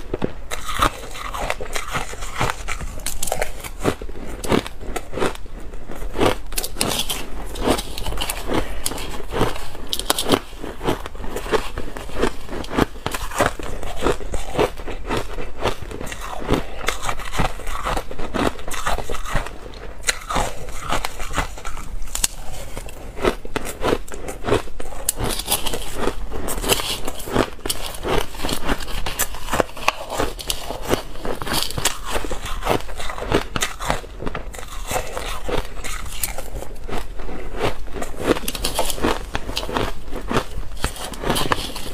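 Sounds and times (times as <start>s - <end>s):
chewing crushed ice: 0.0s - 41.9s.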